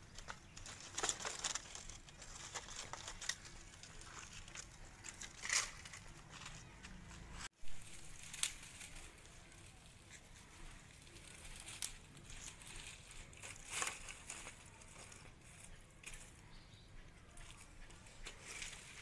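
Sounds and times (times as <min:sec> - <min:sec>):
dry kindling crackling: 0:00.0 - 0:19.0.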